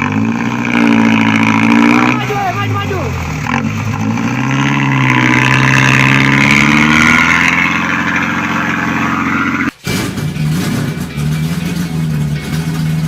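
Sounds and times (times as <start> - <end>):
truck engine under load: 0.0 - 13.0.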